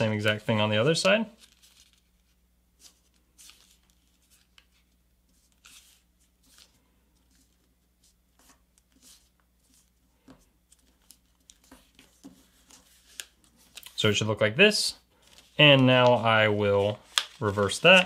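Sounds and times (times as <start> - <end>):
paper rustling as folded: 1.3 - 14.2, 15.1 - 18.0.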